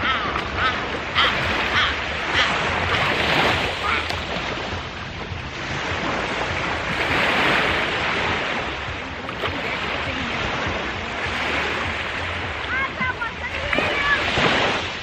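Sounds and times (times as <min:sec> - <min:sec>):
waves breaking in shallows: 0:00.0 - 0:15.0.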